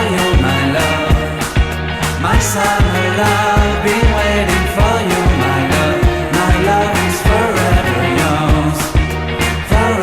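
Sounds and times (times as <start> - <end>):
person singing: 0.0 - 10.0
steady drum beat: 0.0 - 10.0
sustained bass line: 0.0 - 10.0.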